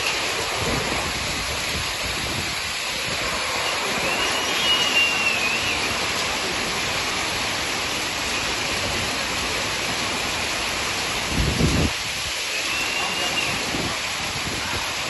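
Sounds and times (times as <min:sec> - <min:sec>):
hail and heavy rain pelting: 0:00.0 - 0:15.0.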